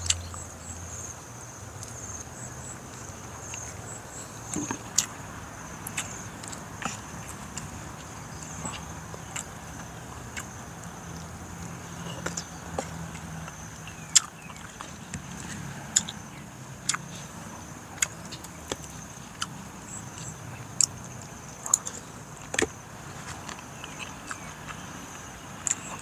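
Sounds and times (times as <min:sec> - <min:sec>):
chewing: 0:02.9 - 0:26.0.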